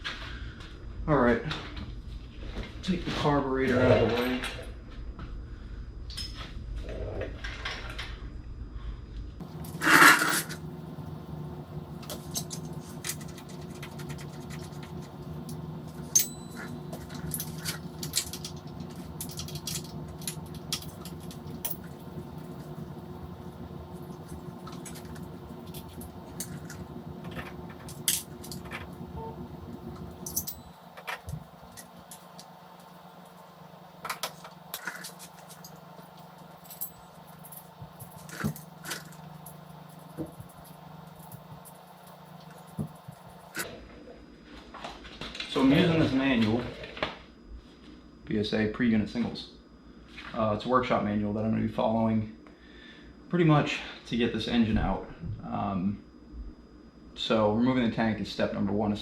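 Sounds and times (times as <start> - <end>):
steady background hum: 0.0 - 59.0.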